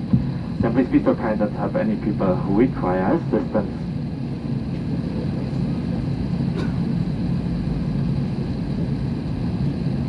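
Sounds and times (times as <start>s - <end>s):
aircraft cabin drone: 0.0s - 10.0s.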